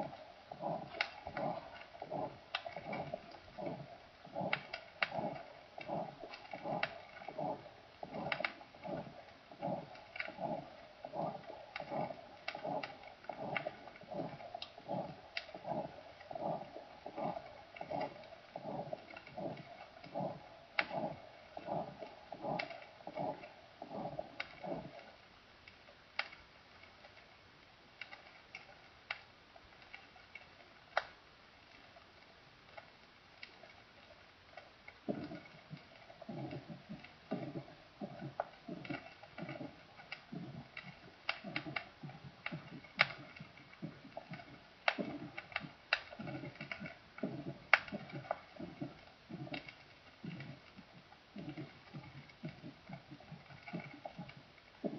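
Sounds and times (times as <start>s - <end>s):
heartbeat thuds: 0.0s - 25.0s, 35.0s - 54.9s
record surface clicks and pops: 0.0s - 54.9s.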